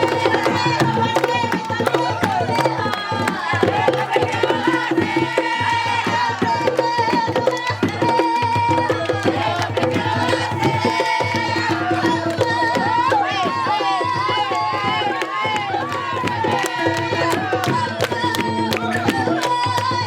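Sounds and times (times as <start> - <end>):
hand drums fast rhythm: 0.0 - 20.0
voices singing: 0.0 - 20.0.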